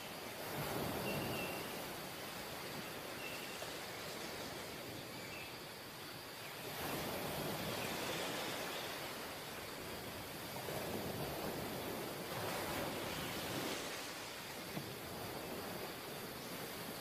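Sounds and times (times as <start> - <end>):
sea surf washing up beach: 0.0 - 17.0.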